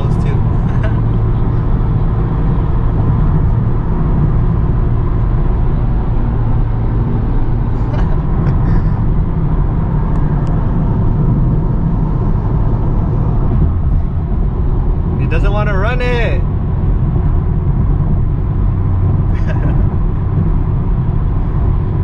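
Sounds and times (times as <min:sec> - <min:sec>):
low engine drone: 0:00.0 - 0:22.0
road and wind noise: 0:00.0 - 0:22.0.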